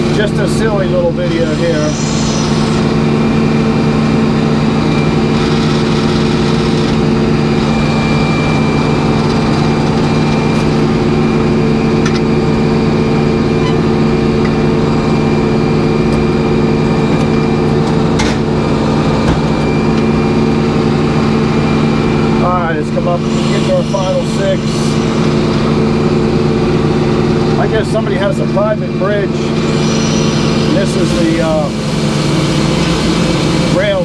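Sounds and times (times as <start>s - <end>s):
sawmill engine droning: 0.0s - 34.0s.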